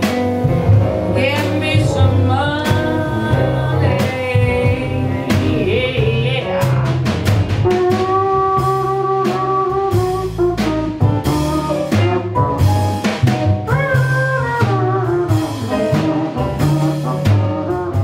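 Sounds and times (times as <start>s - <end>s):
jazz combo playing: 0.0s - 18.0s.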